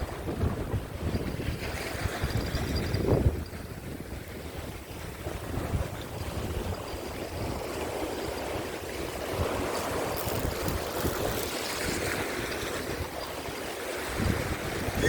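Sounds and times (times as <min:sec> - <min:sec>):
waves washing over rocks: 0:00.0 - 0:15.0
wind gusting on microphone: 0:00.0 - 0:15.0.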